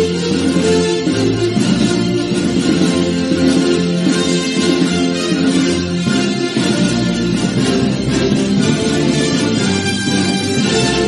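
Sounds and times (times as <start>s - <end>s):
film score with plucked strings: 0.0s - 11.0s.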